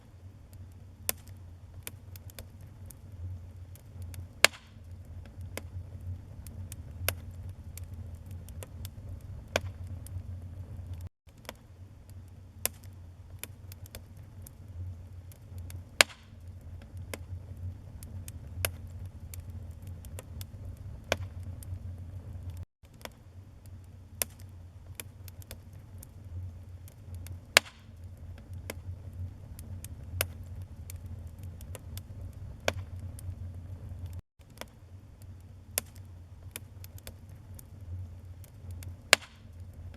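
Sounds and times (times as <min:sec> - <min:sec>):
fire crackling and popping: 0:00.0 - 0:39.9
fire flames rumbling: 0:00.1 - 0:39.9.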